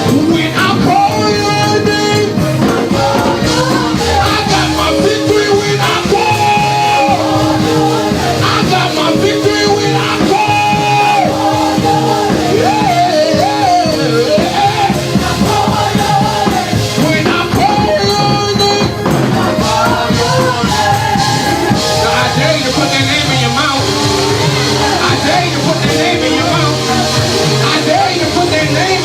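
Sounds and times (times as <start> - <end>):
drums steady beat: 0.0 - 29.0
person singing praise music: 0.0 - 29.0.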